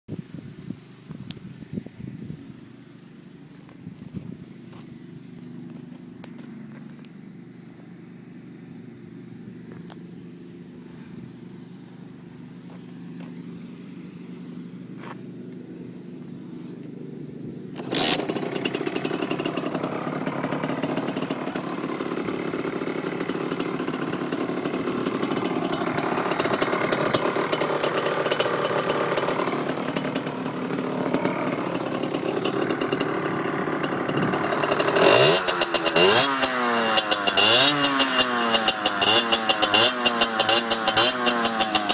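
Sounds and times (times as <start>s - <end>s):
two-stroke motorcycle engine: 0.1s - 41.9s.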